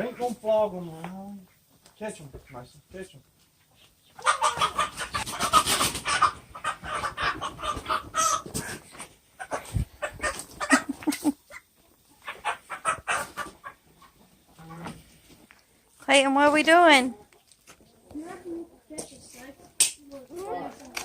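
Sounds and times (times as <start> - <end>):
chickens squawking and clucking: 3.5 - 21.0.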